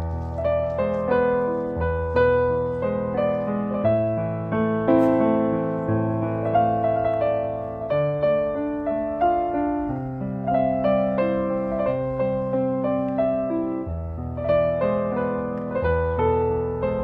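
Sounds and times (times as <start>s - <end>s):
gentle solo piano: 0.0s - 17.0s.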